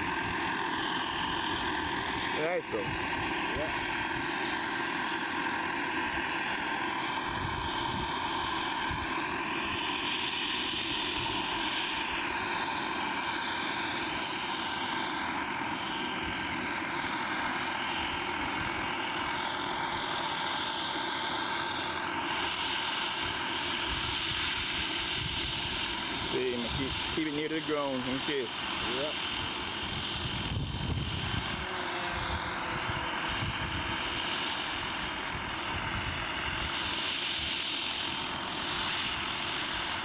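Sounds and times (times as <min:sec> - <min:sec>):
helicopter rotor noise: 0:00.0 - 0:40.0
model helicopter jet turbine whine: 0:00.0 - 0:40.0.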